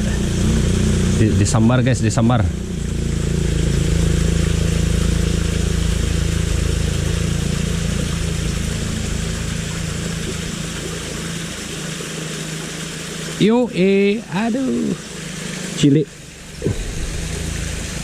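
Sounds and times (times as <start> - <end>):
small engine humming: 0.0 - 18.0.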